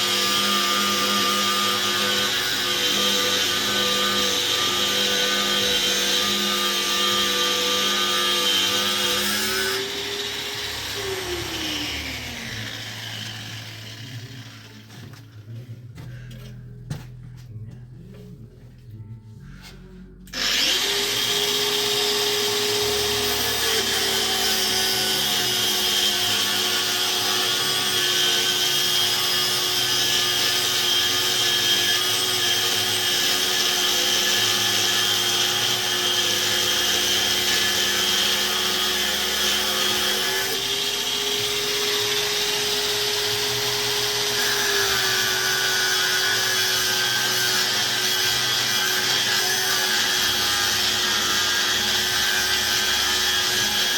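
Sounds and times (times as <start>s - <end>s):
angle grinder whining: 0.0s - 15.3s, 20.2s - 53.9s.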